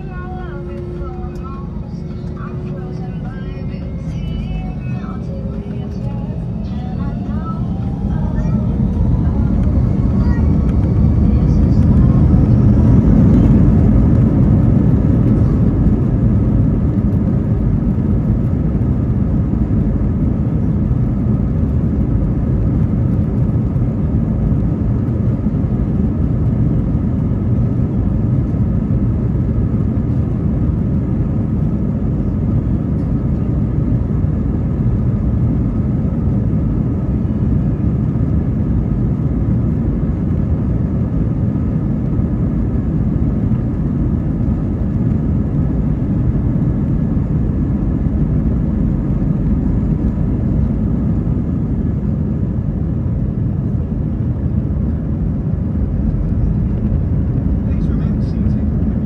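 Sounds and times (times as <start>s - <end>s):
aircraft cabin engine roar: 0.0s - 59.0s.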